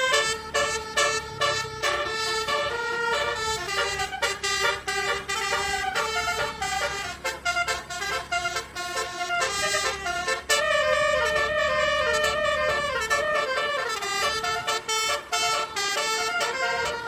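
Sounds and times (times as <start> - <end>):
musical air horn tune: 0.0 - 17.0.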